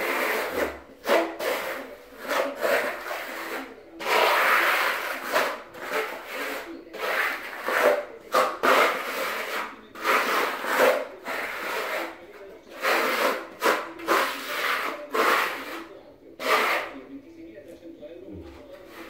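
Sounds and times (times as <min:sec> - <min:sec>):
trowel scraping concrete: 0:00.0 - 0:17.0, 0:18.6 - 0:19.0.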